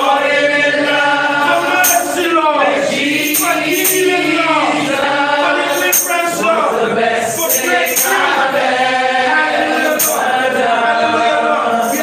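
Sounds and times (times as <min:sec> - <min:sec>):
woman singing worship song: 0:00.0 - 0:12.0.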